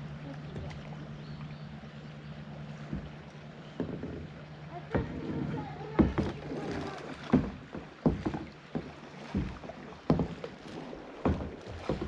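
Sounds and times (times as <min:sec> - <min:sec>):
moving water washing: 0:00.0 - 0:12.0
paddle splashing in water: 0:00.0 - 0:12.0.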